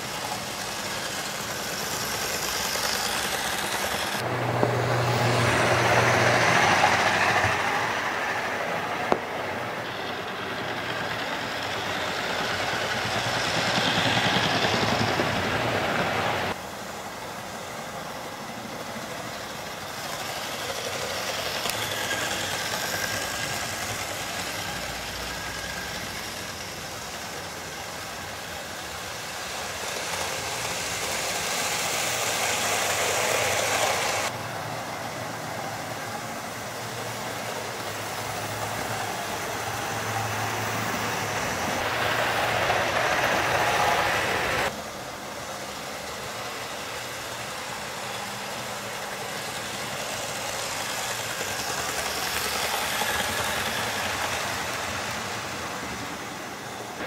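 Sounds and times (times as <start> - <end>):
model train motor whirring: 0.0 - 57.0.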